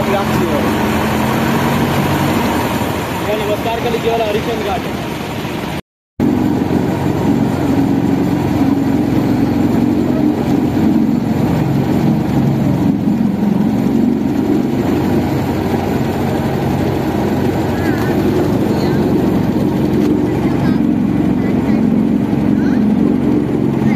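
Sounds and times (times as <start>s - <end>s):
motorboat engine droning: 0.0s - 23.9s
river and wind noise: 0.0s - 23.9s.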